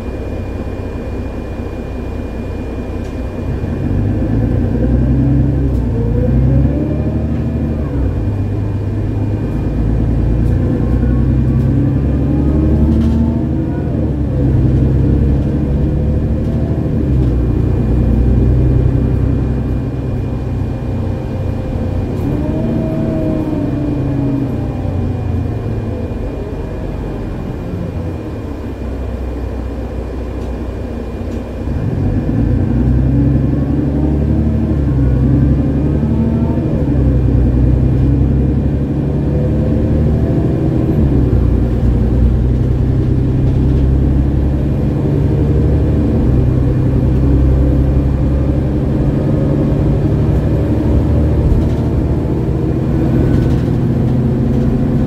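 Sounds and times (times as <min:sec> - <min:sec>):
bus engine under load: 0:00.0 - 0:55.0.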